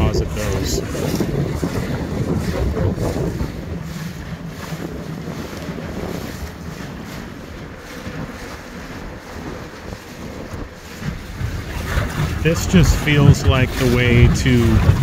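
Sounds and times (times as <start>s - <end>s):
boat motor running: 0.0s - 15.0s
water washing past hull: 0.0s - 15.0s
wind buffeting microphone: 0.0s - 15.0s.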